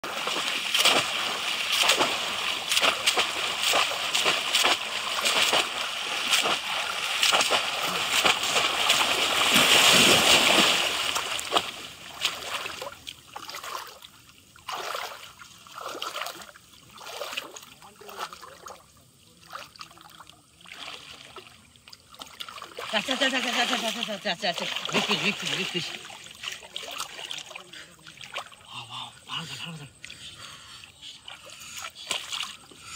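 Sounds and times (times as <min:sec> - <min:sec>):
water splashing and sloshing: 0:00.0 - 0:32.9.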